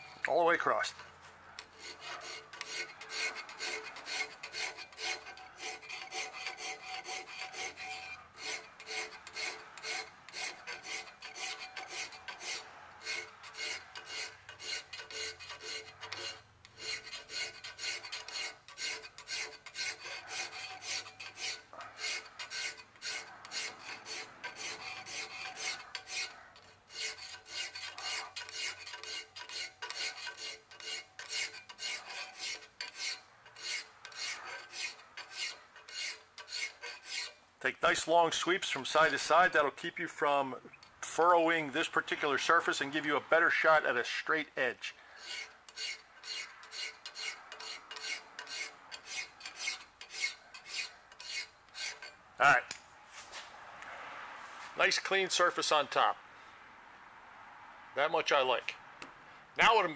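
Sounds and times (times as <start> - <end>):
hand file stroking metal: 0.0 - 39.7, 45.1 - 53.4.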